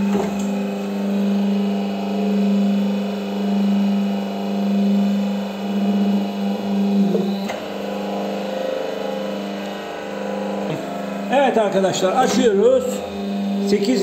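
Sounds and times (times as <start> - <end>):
hydraulic pump motor humming: 0.0 - 14.0.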